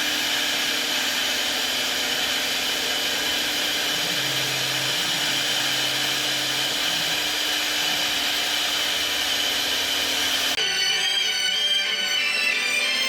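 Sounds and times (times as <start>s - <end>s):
router spindle whine and hiss: 0.0s - 13.0s.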